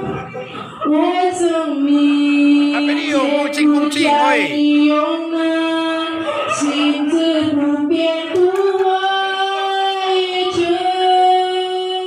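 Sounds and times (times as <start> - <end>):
woman singing over loudspeaker: 0.0 - 12.0.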